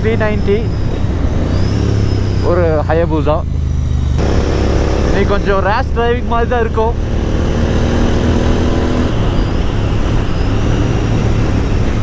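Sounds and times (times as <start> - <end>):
motorcycle engine running at speed: 0.0 - 12.0
rushing wind: 0.0 - 12.0.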